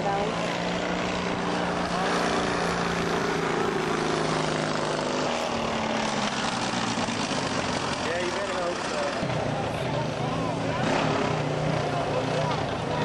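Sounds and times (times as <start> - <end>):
lawn mower engine droning: 0.0 - 13.0.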